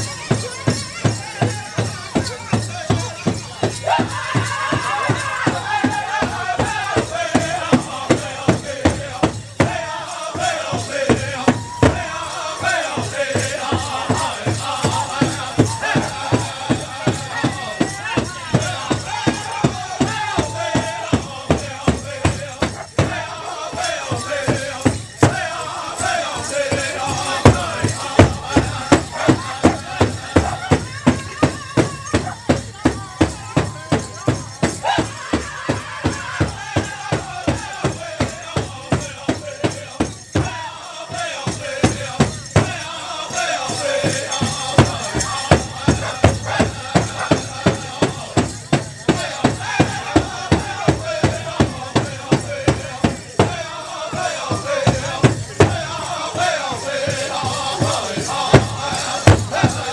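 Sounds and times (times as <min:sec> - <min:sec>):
group singing: 0:00.0 - 0:59.9
jingling bells: 0:00.0 - 0:59.9
large drum beating: 0:00.1 - 0:40.6, 0:43.7 - 0:59.9.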